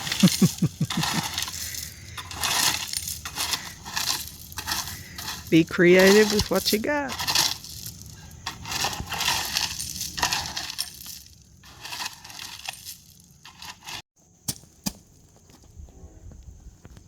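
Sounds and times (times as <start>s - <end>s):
gravel crunching and scraping: 0.0s - 17.0s.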